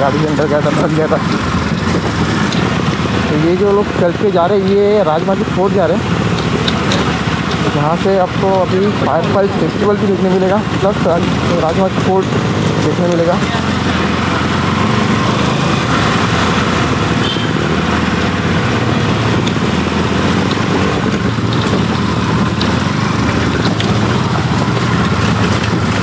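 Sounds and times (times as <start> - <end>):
motorcycle engine running: 0.0 - 26.0
tyre noise: 0.0 - 26.0.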